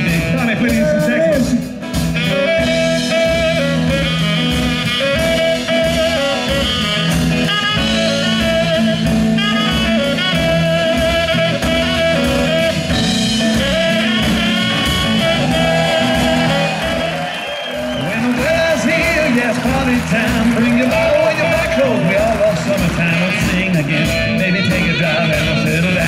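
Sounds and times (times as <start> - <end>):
drum kit steady beat: 0.0 - 26.0
live band playing: 0.0 - 26.0
saxophone solo: 0.0 - 26.0.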